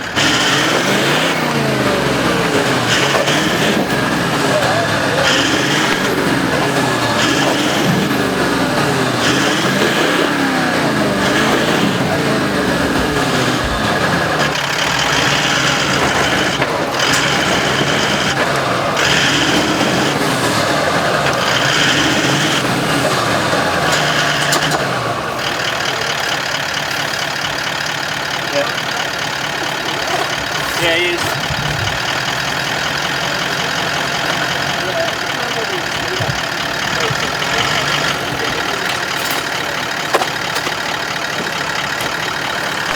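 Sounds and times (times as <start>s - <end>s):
engine revving: 0.0s - 42.9s.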